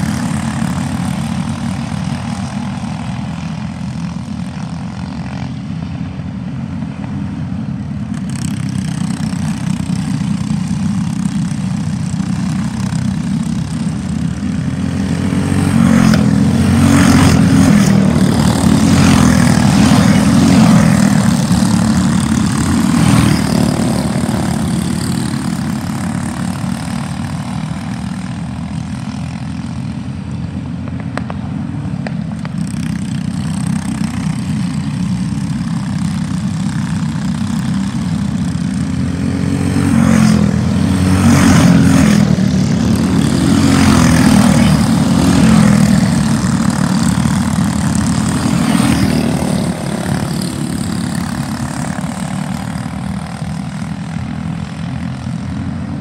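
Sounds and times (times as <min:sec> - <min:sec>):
racing kart engines: 0:00.0 - 0:56.0.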